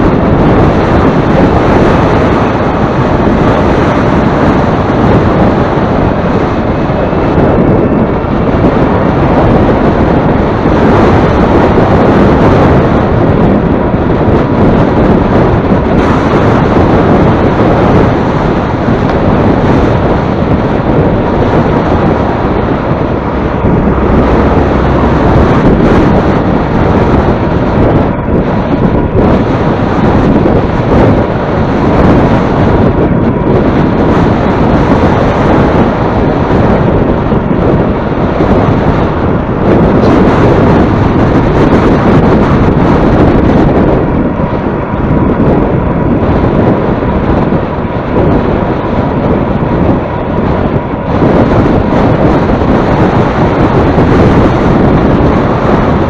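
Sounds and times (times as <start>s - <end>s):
heavy wind buffeting microphone: 0.0s - 56.0s.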